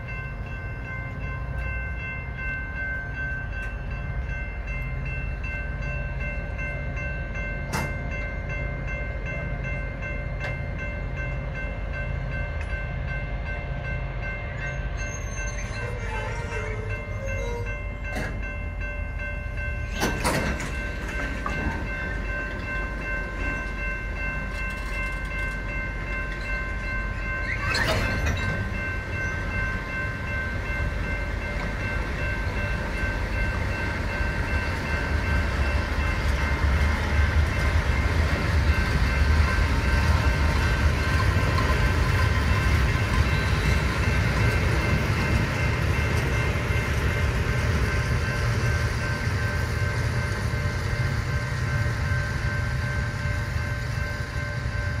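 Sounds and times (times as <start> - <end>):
freight train rumbling past: 0.0 - 55.0
steady high ringing tones: 0.0 - 55.0.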